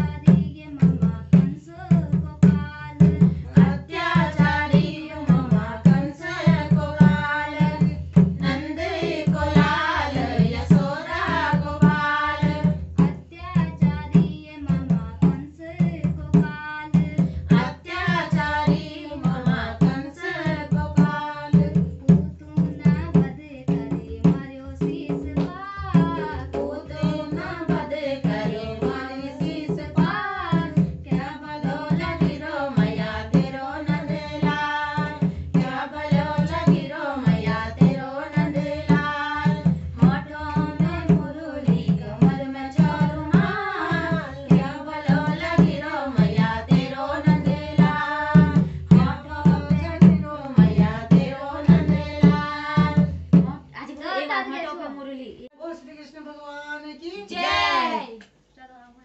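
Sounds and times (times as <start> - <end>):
women singing folk song: 0.0 - 53.6, 56.8 - 58.2
hand drum beat: 0.0 - 53.7.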